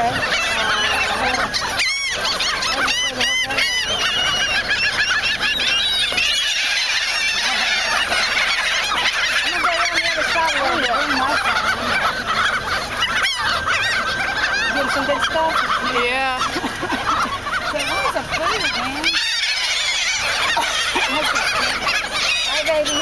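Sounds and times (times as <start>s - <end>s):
gulls calling: 0.0s - 23.0s.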